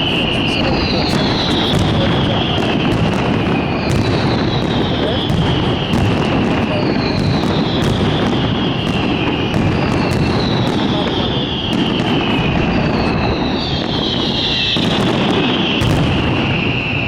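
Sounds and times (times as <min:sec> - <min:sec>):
fireworks bangs and crackle: 0:00.0 - 0:17.0
fireworks whistles falling in pitch: 0:00.0 - 0:17.0.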